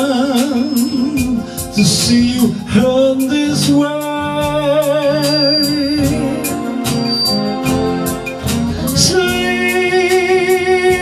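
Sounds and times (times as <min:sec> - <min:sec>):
organ and keyboard chords: 0:00.0 - 0:11.0
steady drum beat: 0:00.0 - 0:11.0.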